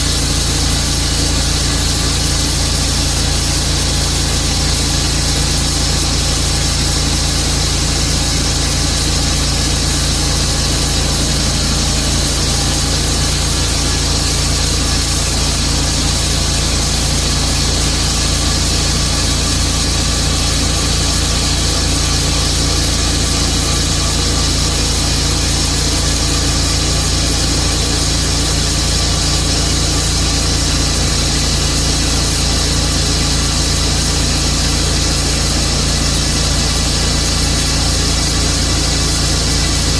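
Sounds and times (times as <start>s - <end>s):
saw cutting through log: 0.0s - 39.9s
sawmill engine running under load: 0.0s - 39.9s.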